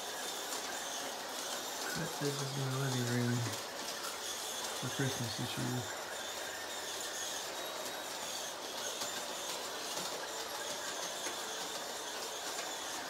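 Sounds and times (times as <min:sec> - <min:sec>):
toy train whirring: 0:00.0 - 0:13.0.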